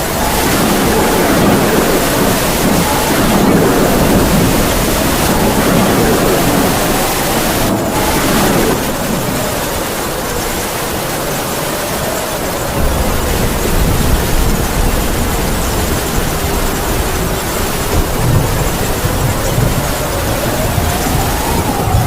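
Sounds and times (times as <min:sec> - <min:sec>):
heavy rain: 0:00.0 - 0:22.0
wind howling: 0:00.0 - 0:22.0.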